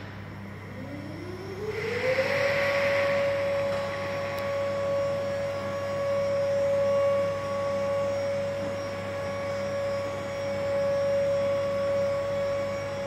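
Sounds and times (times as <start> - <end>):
electric whine with low hum: 0.0 - 13.0.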